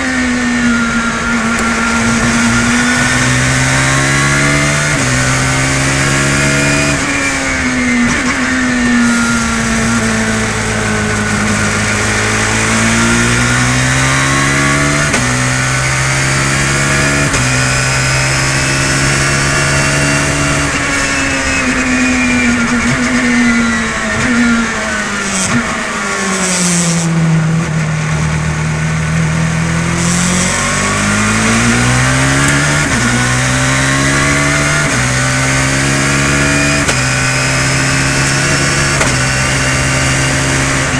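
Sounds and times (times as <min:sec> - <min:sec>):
misfiring car engine revving: 0:00.0 - 0:40.9.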